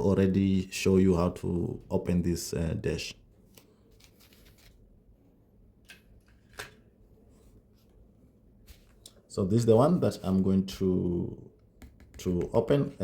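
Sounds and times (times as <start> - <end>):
quiet room hiss: 0.0 - 13.0.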